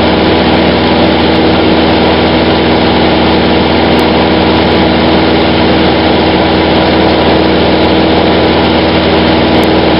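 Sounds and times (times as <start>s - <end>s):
airplane engine droning in flight: 0.0s - 9.9s.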